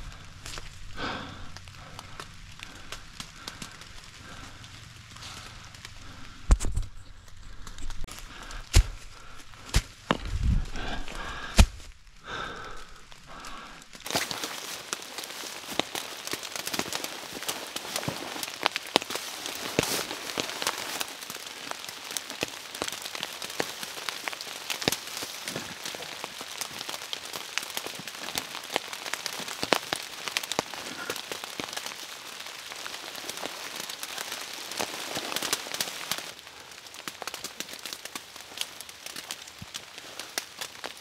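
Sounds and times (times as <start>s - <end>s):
rain pattering: 0.0s - 41.0s.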